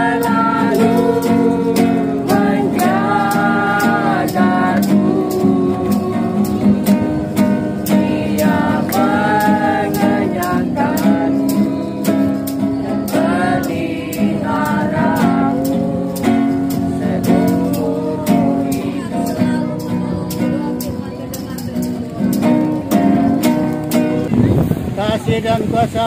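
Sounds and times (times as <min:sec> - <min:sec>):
group singing: 0:00.0 - 0:21.6
steady beat: 0:00.0 - 0:24.4
acoustic guitar: 0:00.0 - 0:26.0.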